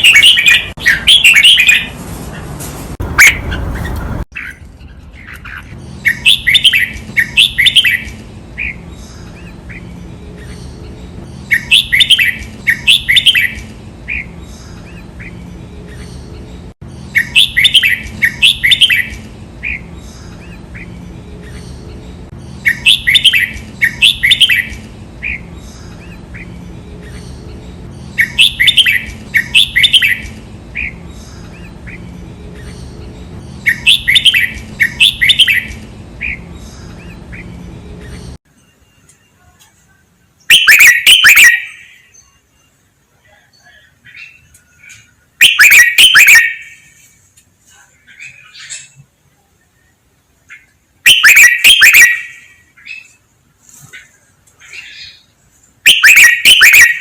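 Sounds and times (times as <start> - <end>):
bird singing chirpy notes: 0.0 - 2.0, 3.0 - 39.5, 40.2 - 47.1, 49.6 - 53.3, 54.0 - 57.0.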